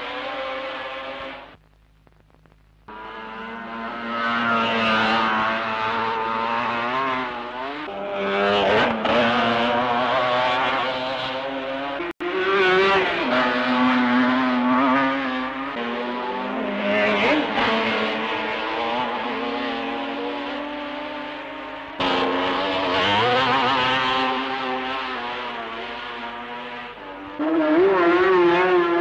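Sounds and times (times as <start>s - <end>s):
racing engines passing: 2.9s - 29.0s.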